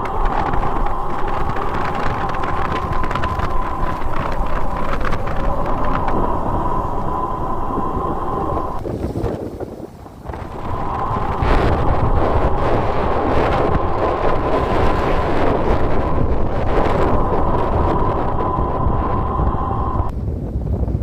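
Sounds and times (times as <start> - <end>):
steady whine: 0.0 - 9.1, 10.2 - 20.2
wind buffeting microphone: 0.0 - 21.0.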